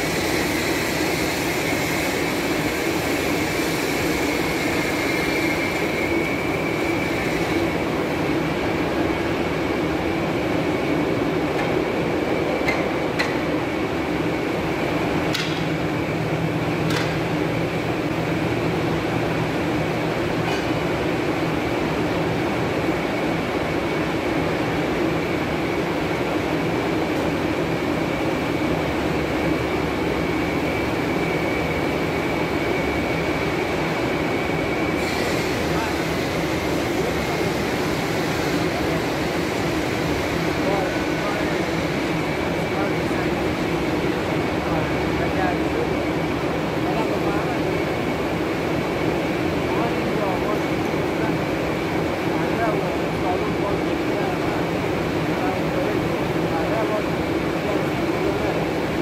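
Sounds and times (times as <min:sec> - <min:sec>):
machine droning with high whine: 0:00.0 - 0:59.0.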